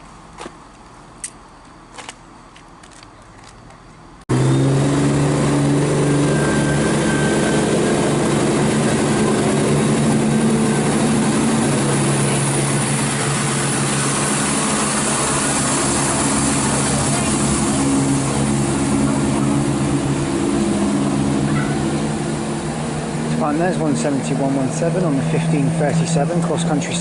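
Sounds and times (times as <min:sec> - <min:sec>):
train diesel engines running: 0:00.0 - 0:27.0.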